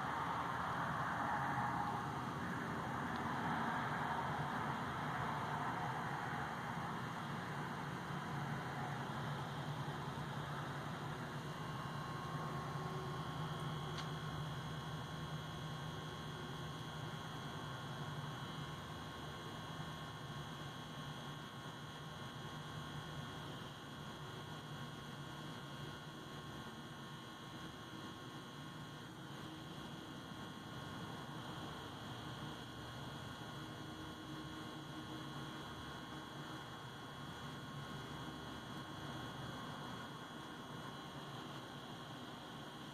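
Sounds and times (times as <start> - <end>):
electrical hum: 0.0 - 42.9
faint high whine: 0.0 - 42.9.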